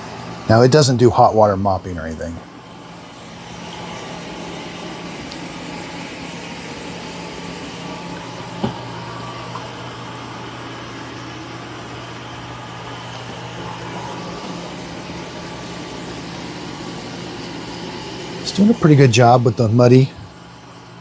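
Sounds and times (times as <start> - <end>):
second lower hum: 0.0 - 21.0
robot vacuum motor hum: 2.6 - 20.6.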